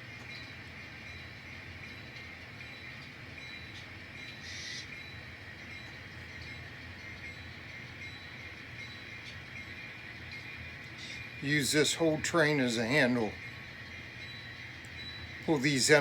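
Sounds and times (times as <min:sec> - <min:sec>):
model train motor whine: 0:00.0 - 0:16.0
wheels rumbling on track: 0:00.0 - 0:16.0.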